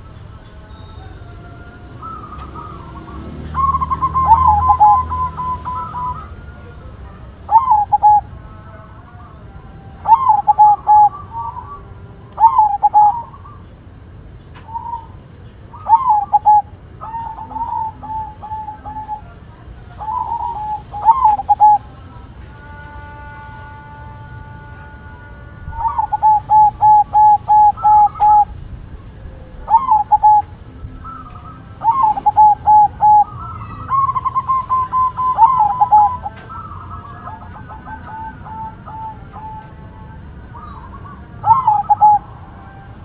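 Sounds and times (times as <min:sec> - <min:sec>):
dove cooing: 0:00.0 - 0:43.0.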